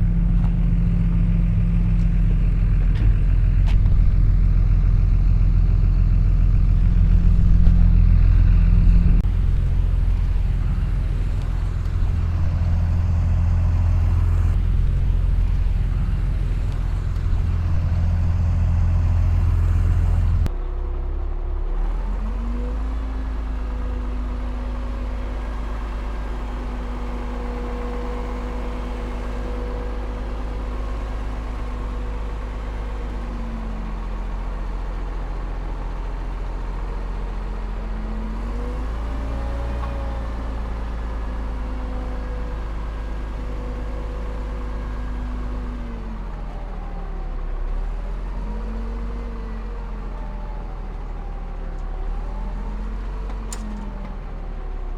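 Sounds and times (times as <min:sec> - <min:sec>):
engine whine: 0:00.0 - 0:54.9
heavy diesel engine droning: 0:00.0 - 0:54.9.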